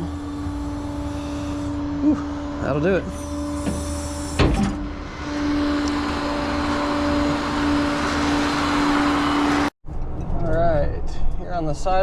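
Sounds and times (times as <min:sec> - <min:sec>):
tow truck engine droning: 0:00.0 - 0:09.8.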